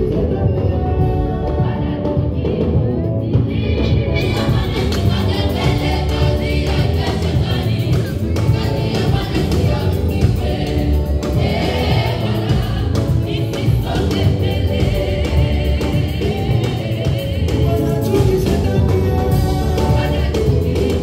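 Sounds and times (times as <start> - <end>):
drum kit beat: 0.0 - 21.0
gospel choir singing: 0.0 - 21.0
live band playing: 0.0 - 21.0.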